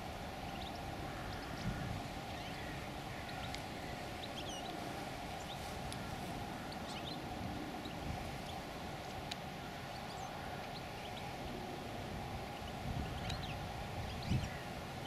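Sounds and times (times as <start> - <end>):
steady low rumble and hum: 0.0 - 15.0.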